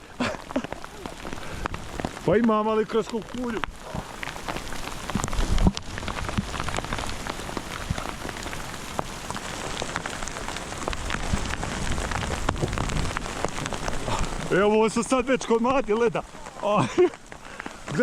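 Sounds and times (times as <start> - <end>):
hail pelting down: 0.0 - 18.0.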